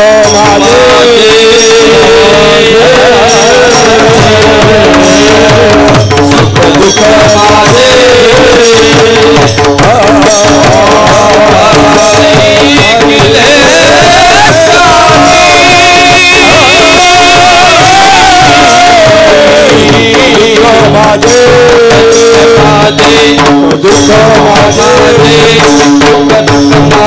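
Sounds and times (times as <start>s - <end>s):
person singing melismatic line: 0.0s - 23.1s
hand drum rhythm: 0.0s - 27.0s.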